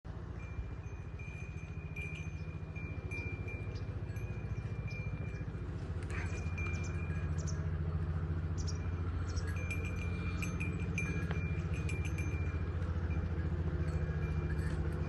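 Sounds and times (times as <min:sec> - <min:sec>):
engine idling low throb: 0:00.1 - 0:15.0
thin steady high tone: 0:00.3 - 0:15.0.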